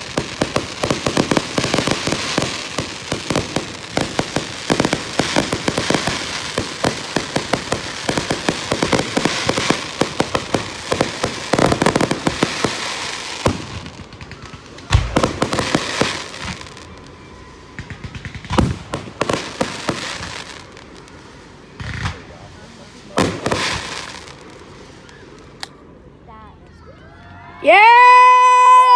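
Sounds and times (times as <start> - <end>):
firework bangs: 0.0 - 25.6
fireworks crackling and popping: 0.0 - 25.9.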